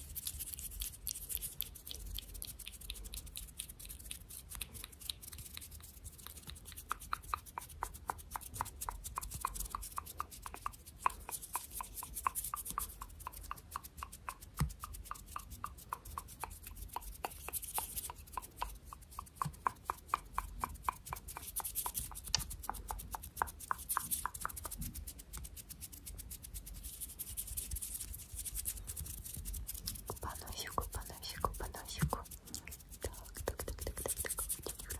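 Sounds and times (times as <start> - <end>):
hand clicking and rubbing: 0.0 - 34.9.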